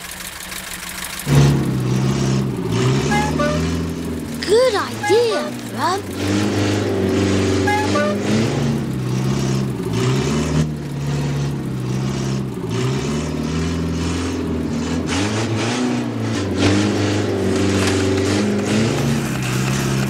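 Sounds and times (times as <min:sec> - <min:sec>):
small car engine revving: 0:00.0 - 0:20.0.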